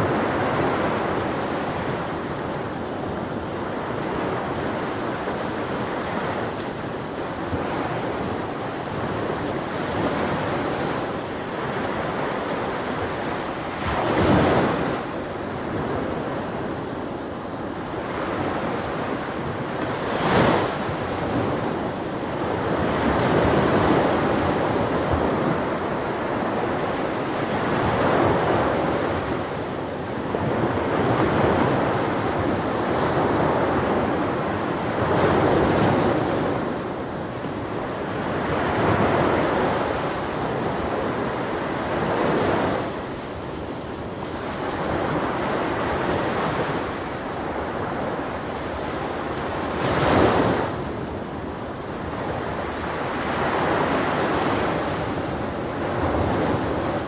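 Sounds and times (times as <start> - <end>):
wind: 0.0 - 57.0.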